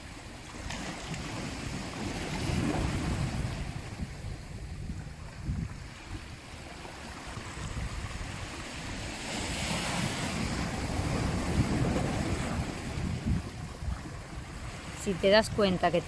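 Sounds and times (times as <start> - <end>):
sea waves breaking: 0.0 - 16.0.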